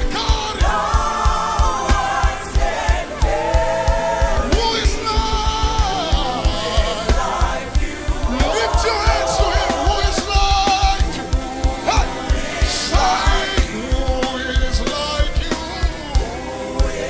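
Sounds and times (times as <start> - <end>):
band playing: 0.0 - 17.0
kick drum beat: 0.0 - 17.0
voices singing together: 0.0 - 17.0.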